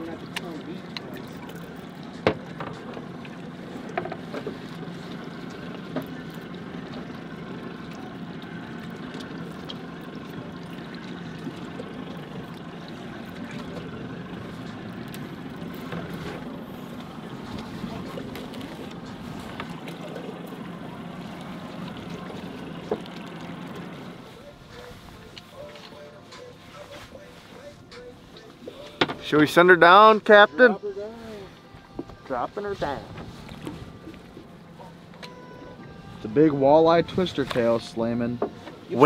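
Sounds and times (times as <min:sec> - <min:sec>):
boat engine idling: 0:00.0 - 0:39.0
water noise: 0:00.0 - 0:39.0
wind: 0:00.0 - 0:39.0.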